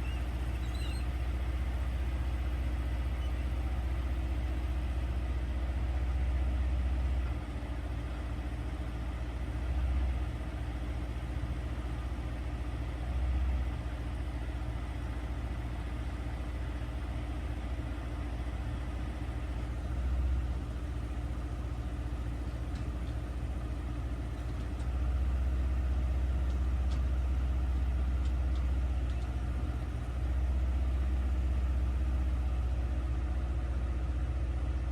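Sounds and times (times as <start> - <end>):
construction equipment engine idling: 0.0 - 34.9.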